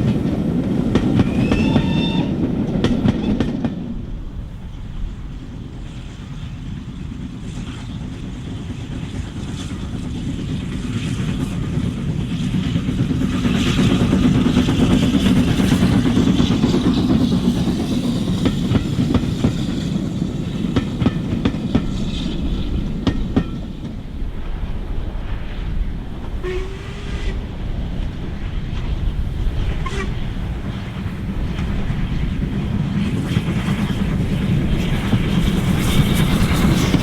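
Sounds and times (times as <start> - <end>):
steam train rumbling past: 0.0 - 37.0.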